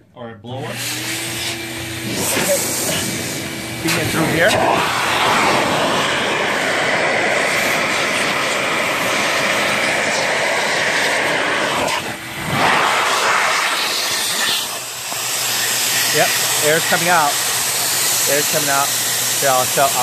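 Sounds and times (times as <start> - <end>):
vacuum cleaner blowing air: 0.6 - 20.0.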